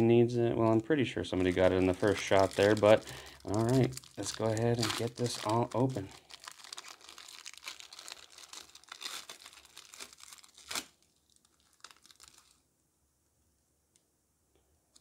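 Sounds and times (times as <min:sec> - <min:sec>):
cellophane crinkling and tearing: 0:00.6 - 0:12.6.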